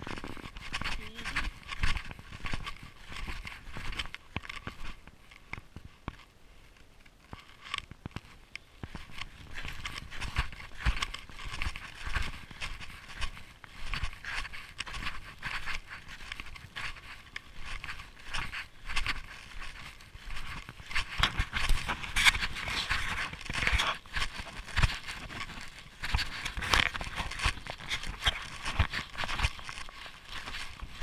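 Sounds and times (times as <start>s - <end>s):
snowshoe footsteps crunching snow: 0.0s - 6.1s, 7.2s - 31.0s.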